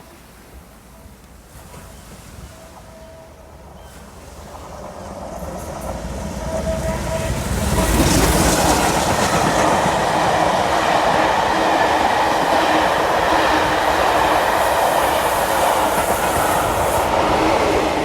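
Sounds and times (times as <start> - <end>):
passenger train rolling past: 0.2 - 18.0.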